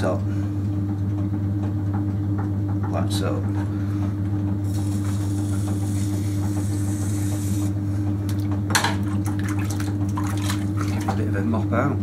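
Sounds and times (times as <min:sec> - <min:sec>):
potter's wheel humming: 0:00.0 - 0:12.0.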